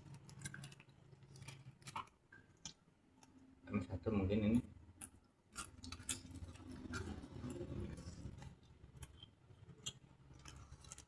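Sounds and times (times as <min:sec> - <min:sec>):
soft chewing: 0:00.0 - 0:03.5, 0:05.0 - 0:11.0.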